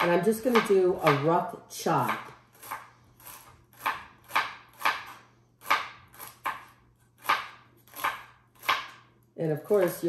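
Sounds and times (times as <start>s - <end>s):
knife chopping on plastic board: 0.0s - 1.4s, 2.0s - 9.1s.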